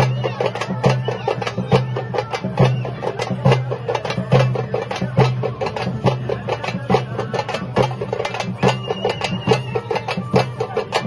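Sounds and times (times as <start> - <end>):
drums playing fast rhythm: 0.0 - 11.0.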